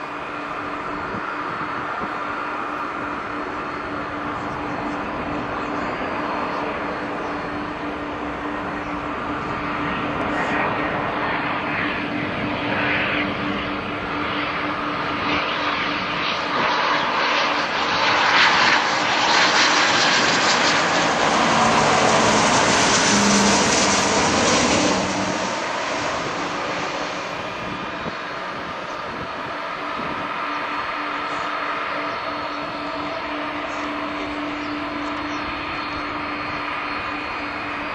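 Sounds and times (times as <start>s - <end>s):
jet plane rushing noise: 0.0s - 37.9s.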